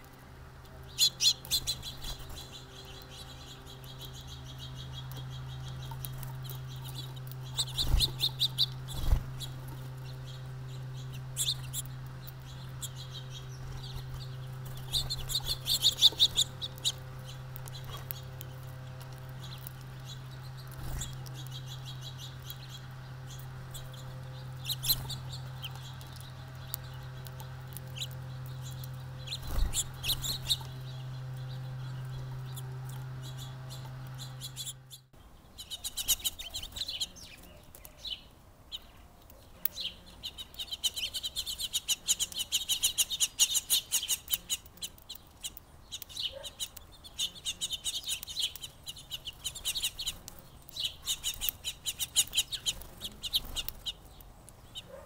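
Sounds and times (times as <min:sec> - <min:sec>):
birds chirping and clucking: 0:00.0 - 0:55.0
steady low hum: 0:00.0 - 0:55.0.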